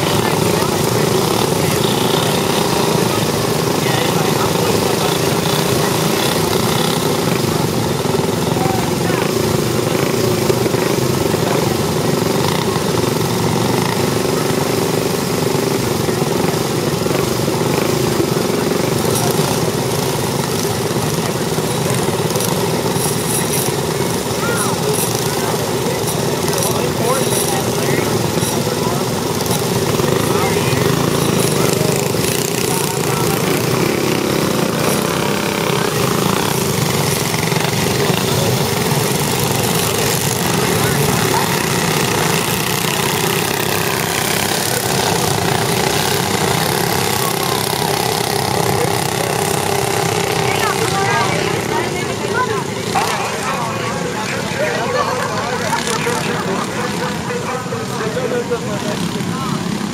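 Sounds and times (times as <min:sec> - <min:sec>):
go-kart engines idling: 0:00.0 - 0:59.9.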